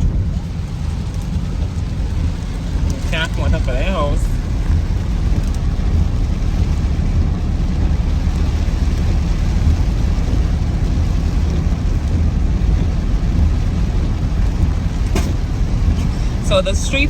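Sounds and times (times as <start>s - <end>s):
car engine and road rumble: 0.0s - 17.0s
heavy rain hiss: 0.0s - 17.0s.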